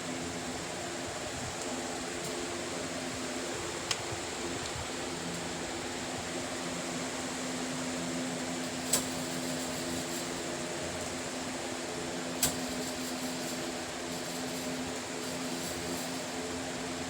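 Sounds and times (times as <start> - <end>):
fan rushing with low hum: 0.0 - 17.0.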